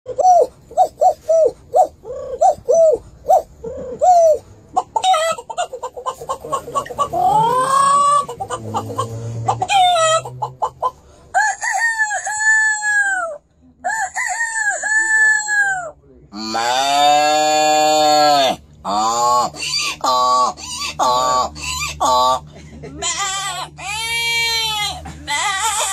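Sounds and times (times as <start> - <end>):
man imitating hen clucks: 0.1 - 25.9.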